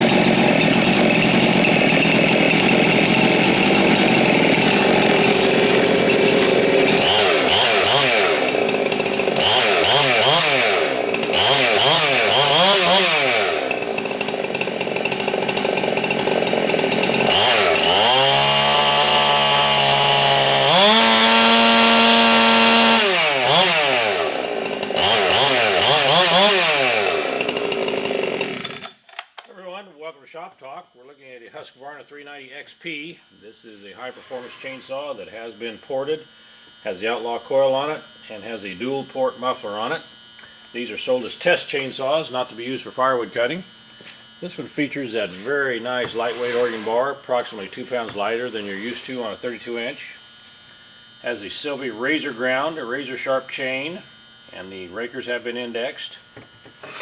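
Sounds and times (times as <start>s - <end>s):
chainsaw revving: 0.0s - 29.3s, 33.0s - 57.0s.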